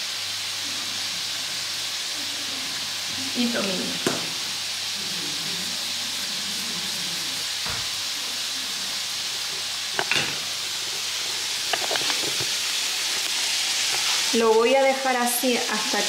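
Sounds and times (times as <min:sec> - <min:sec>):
potatoes frying in hot oil: 0:00.0 - 0:16.0.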